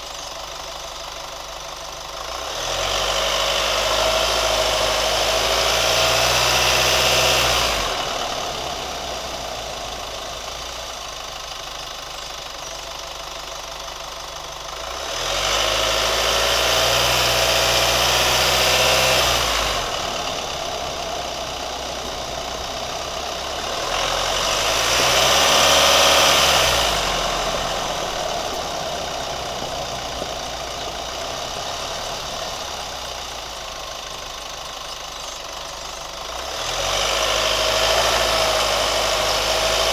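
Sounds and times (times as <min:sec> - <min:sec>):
pickup engine idling and revving: 0:00.0 - 0:39.9.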